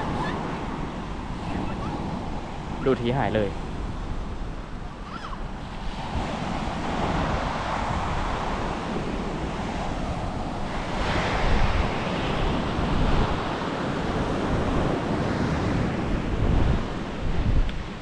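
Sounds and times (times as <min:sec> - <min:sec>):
heavy surf crashing: 0:00.0 - 0:18.0
wind buffeting microphone: 0:00.0 - 0:18.0.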